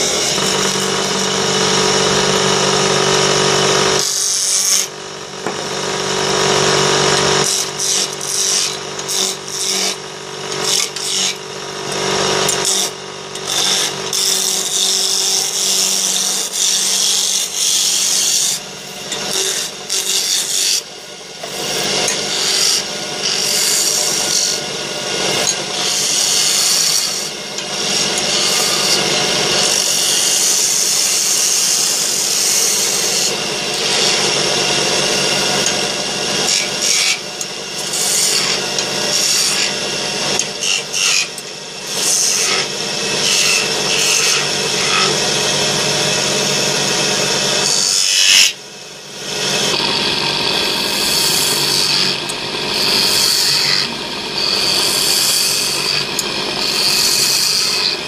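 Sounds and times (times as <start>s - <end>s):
gouge scraping spinning wood: 0.0s - 48.6s, 49.2s - 58.0s
lathe motor hum: 0.0s - 58.0s.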